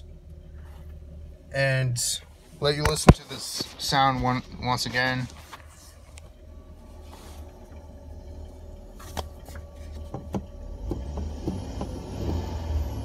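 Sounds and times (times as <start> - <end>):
speaker static hiss and buzz: 0.0 - 11.8
low hum: 0.0 - 13.0.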